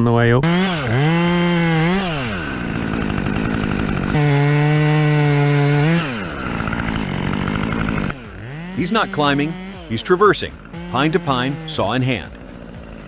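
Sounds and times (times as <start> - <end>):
chainsaw revving: 0.4 - 13.0.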